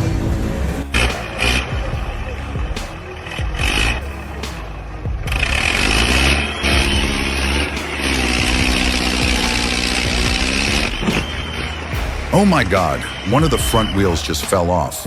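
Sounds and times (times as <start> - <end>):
heavy vehicle engine revving: 0.0 - 14.6.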